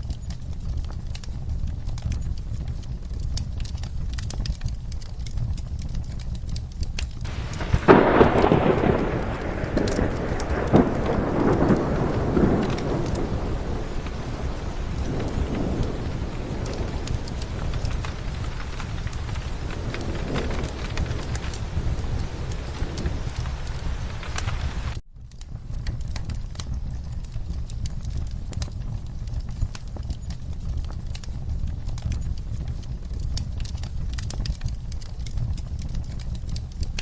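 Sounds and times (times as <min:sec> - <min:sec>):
steady rain: 0:00.0 - 0:37.0
thunder clap and rumble: 0:00.0 - 0:37.0
wood fire crackling: 0:00.0 - 0:37.0.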